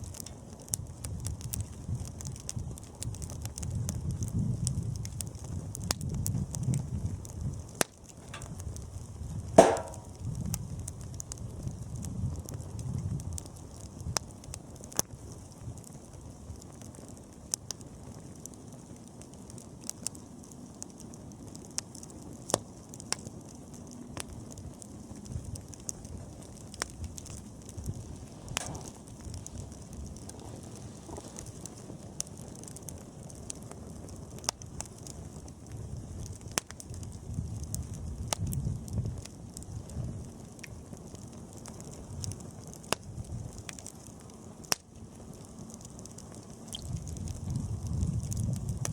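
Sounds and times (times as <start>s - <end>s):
burning wood crackling: 0.0s - 48.9s
campfire flames rumbling: 0.0s - 48.9s.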